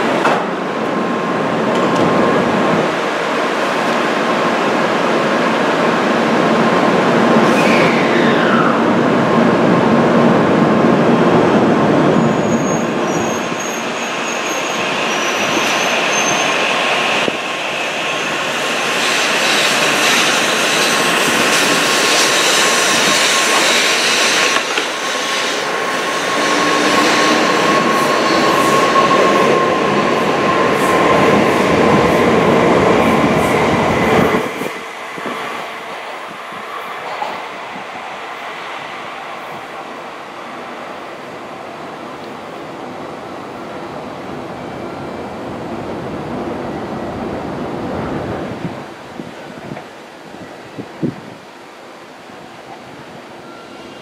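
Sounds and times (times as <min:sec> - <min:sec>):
train wheel and rail noise: 0:00.0 - 0:54.0
train whine: 0:00.0 - 0:54.0.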